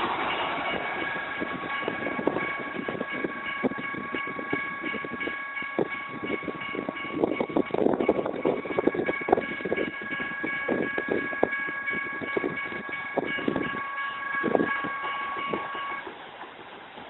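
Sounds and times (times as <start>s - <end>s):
railroad crossing bell ringing: 0.0s - 16.1s.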